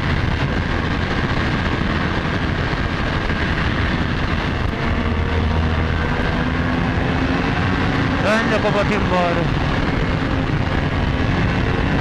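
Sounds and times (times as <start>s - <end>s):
motorcycle engine cruising: 0.0s - 12.0s
wind rush on microphone: 0.0s - 12.0s.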